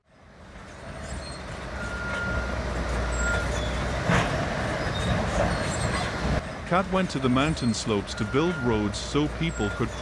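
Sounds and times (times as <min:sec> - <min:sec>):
diesel machinery rumbling: 0:00.1 - 0:10.0.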